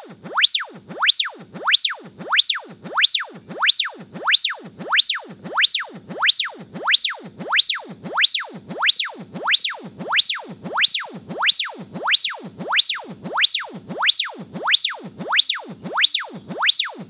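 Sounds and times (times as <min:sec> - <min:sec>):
test tone sweeping up and down: 0:00.0 - 0:17.0.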